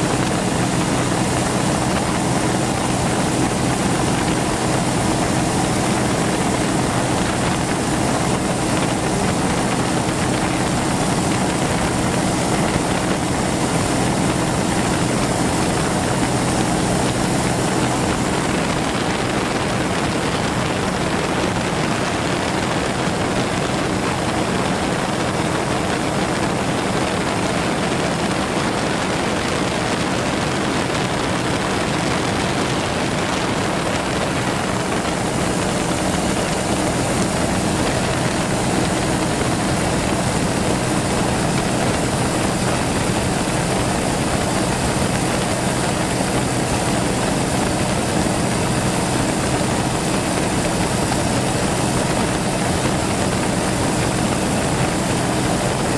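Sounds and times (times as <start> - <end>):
engine drone: 0.0 - 55.9
loud rushing noise: 0.0 - 55.9.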